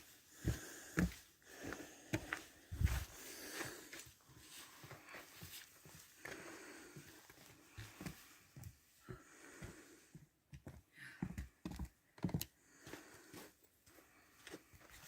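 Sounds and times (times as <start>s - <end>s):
footsteps on a trail: 0.3s - 15.0s.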